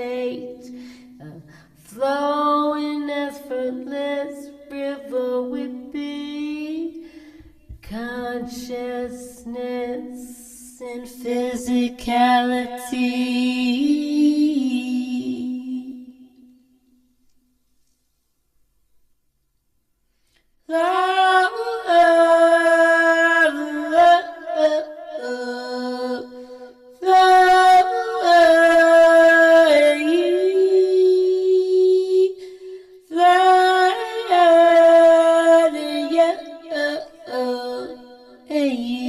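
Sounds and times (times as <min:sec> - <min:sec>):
woman singing unaccompanied: 0:00.0 - 0:07.0, 0:07.7 - 0:16.4, 0:20.7 - 0:32.4, 0:33.1 - 0:39.0.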